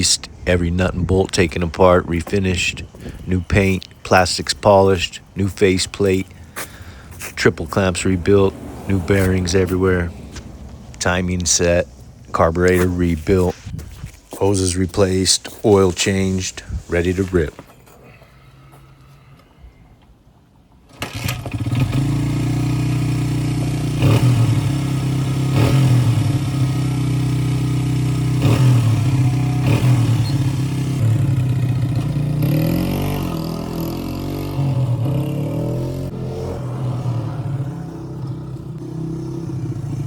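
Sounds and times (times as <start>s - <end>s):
motorcycle engine starting and revving: 0.5s - 13.5s, 20.8s - 40.0s.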